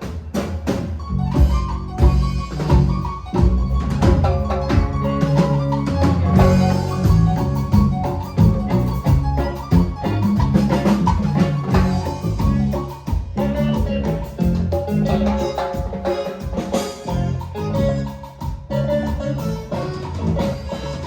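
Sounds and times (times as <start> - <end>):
band playing upbeat cumbia: 0.0 - 21.0.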